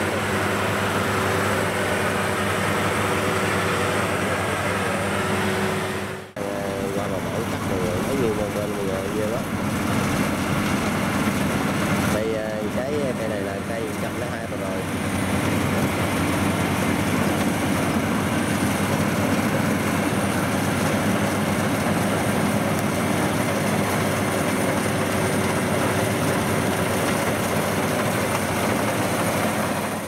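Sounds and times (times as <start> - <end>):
cutting and threshing machinery: 0.0 - 30.0
low engine hum: 0.0 - 30.0.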